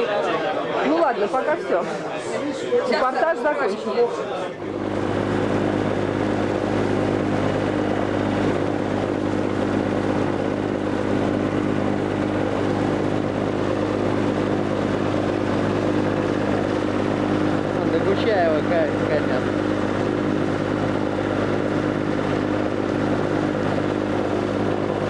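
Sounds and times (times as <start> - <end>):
motorboat engine droning: 4.5 - 25.0.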